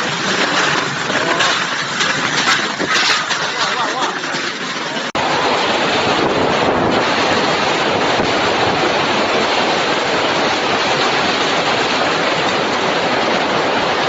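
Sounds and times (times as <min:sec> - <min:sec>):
storm rushing noise: 0:00.0 - 0:14.0.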